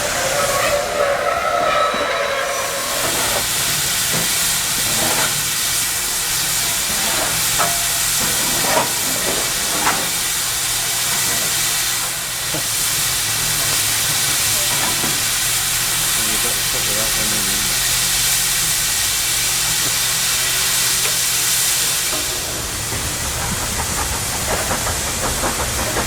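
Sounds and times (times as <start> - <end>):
steam locomotive hissing steam: 0.0 - 26.0.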